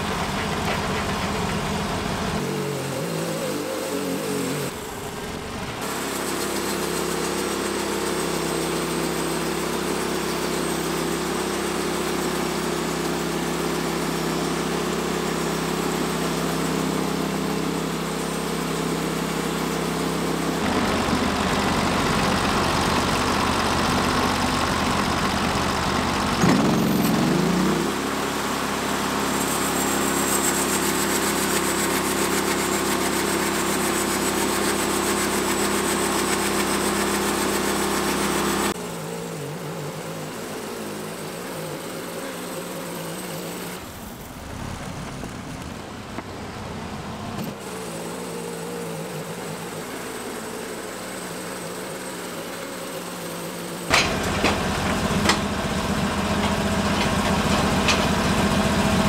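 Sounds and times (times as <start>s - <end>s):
gas engine running: 0.0s - 59.0s.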